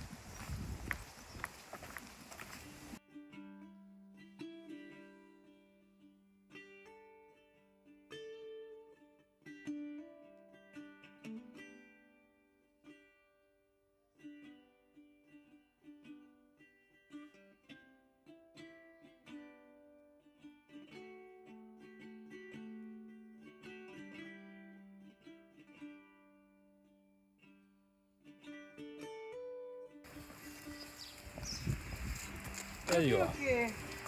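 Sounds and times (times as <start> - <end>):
plucked string instrument music: 2.6 - 34.0.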